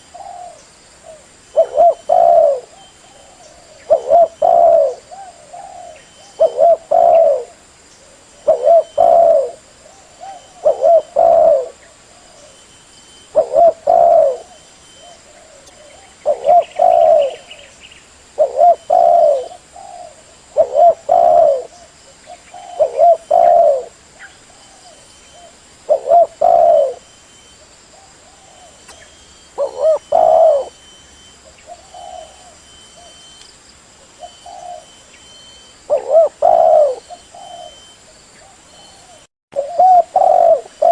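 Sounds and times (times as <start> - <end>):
dove cooing: 0.0 - 17.7, 18.4 - 27.1, 27.9 - 33.3, 34.1 - 40.9.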